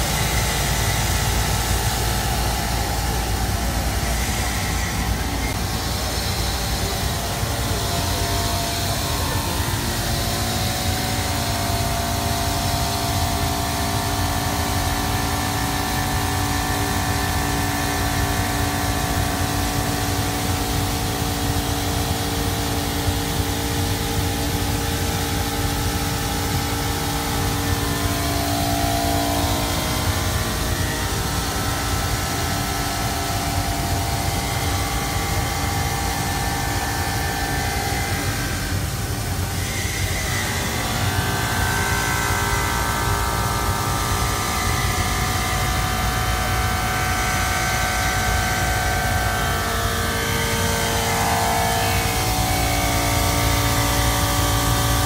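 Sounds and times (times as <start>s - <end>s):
machine spindle whine: 0.0s - 55.0s.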